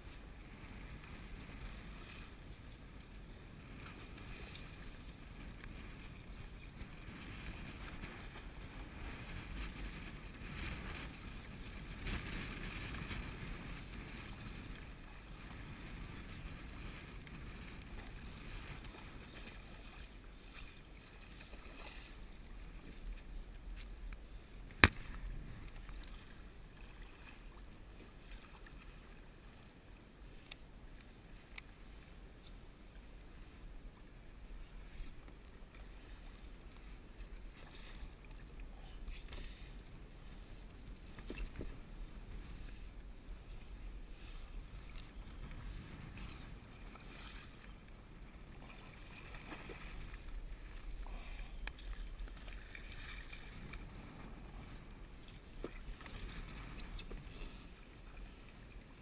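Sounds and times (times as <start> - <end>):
water lapping against kayak hull: 0.0 - 59.0.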